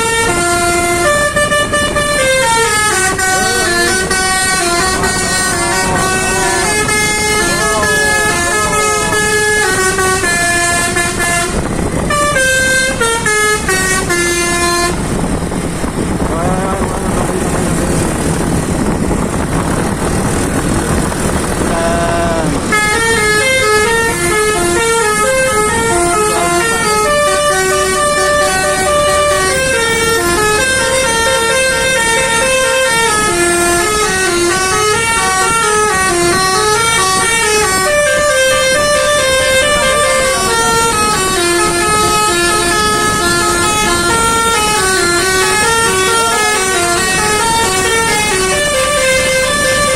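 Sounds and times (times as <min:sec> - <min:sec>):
bus horn playing a tune: 0:00.0 - 0:16.2, 0:21.6 - 0:49.9.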